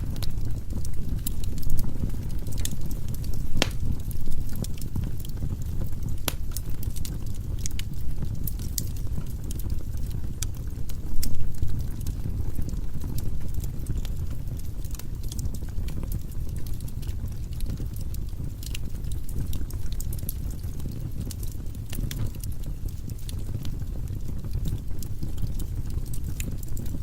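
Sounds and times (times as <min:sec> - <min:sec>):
fire rumbling: 0:00.0 - 0:27.0
firewood crackling and popping: 0:00.0 - 0:27.0.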